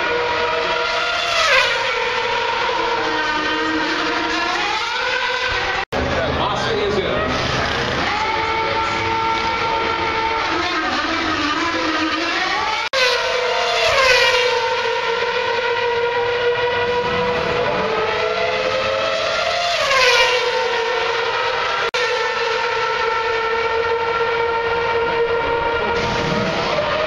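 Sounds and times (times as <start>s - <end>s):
racing car engines high-pitched: 0.0s - 27.0s
racing car passing by: 0.1s - 27.0s.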